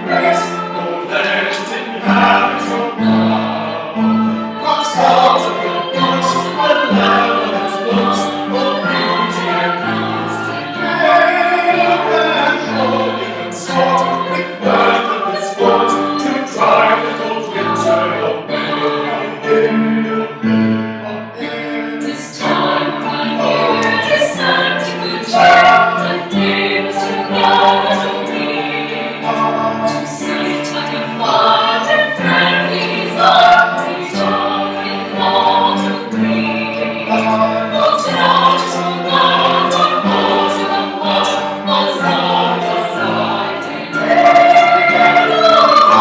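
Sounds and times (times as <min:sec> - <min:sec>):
group singing in parts: 0:00.0 - 0:46.0.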